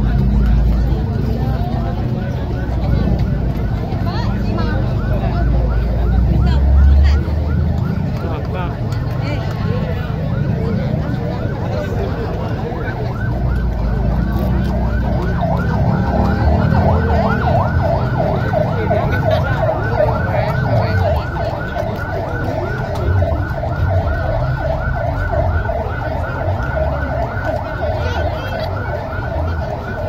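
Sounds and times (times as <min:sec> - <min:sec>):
siren yelping: 0:00.2 - 0:30.0.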